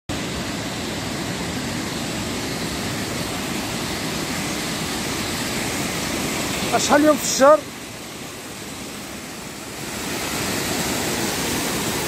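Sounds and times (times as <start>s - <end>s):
stream rushing over rocks: 0.1s - 12.0s.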